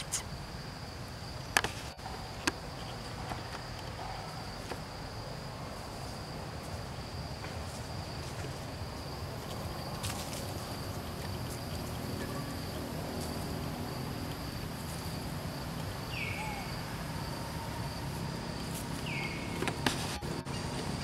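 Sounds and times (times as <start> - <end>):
insects humming: 0.0 - 21.0.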